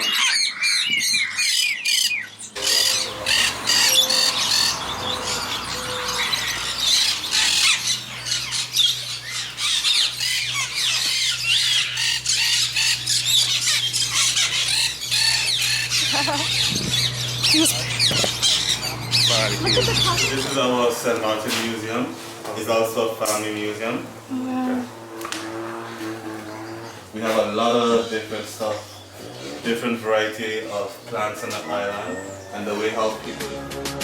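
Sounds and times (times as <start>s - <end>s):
parrots squawking and screeching: 0.0s - 33.3s
steady low hum: 2.6s - 31.3s.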